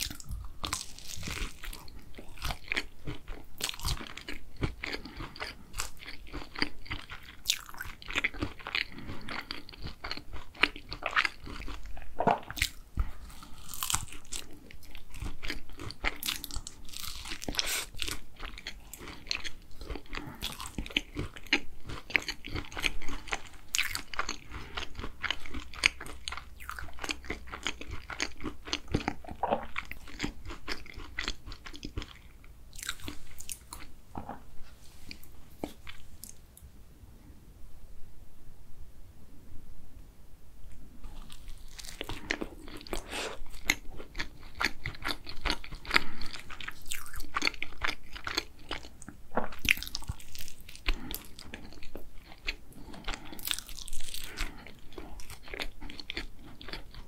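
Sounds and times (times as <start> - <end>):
close chewing crunch: 0.0 - 36.4, 41.0 - 57.0.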